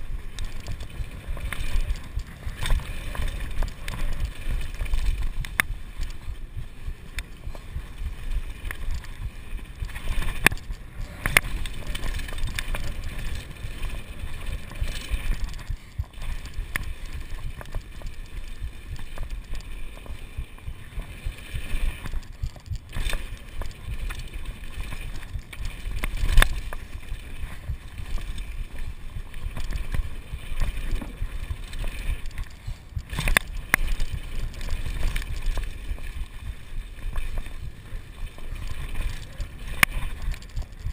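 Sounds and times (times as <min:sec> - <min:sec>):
bike knocking and rattling: 0:00.0 - 0:40.9
bike tyres rolling over dirt: 0:00.0 - 0:40.9.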